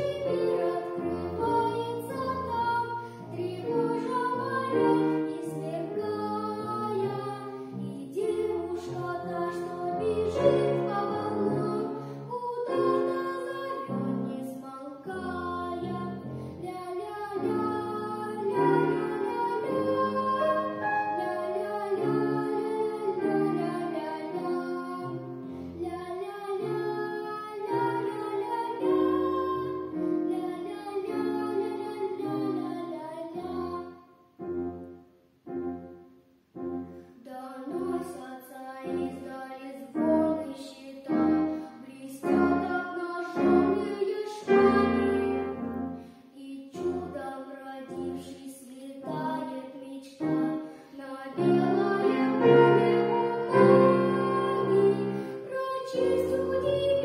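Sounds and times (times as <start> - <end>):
boy singing: 0.0 - 34.1, 37.2 - 57.0
grand piano: 0.0 - 57.0.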